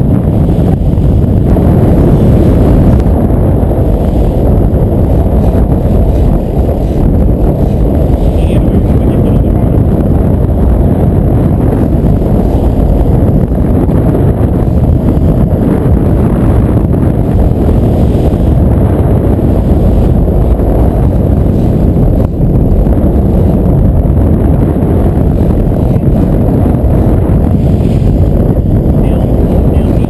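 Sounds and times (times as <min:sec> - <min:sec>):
outboard motors running: 0:00.0 - 0:30.0
water rushing along hull: 0:00.0 - 0:30.0
wind rumble on microphone: 0:00.0 - 0:30.0.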